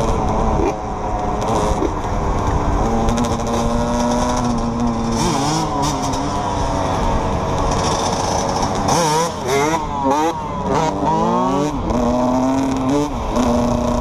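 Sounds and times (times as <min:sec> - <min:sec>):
quad and dirt bike engines: 0:00.0 - 0:14.0.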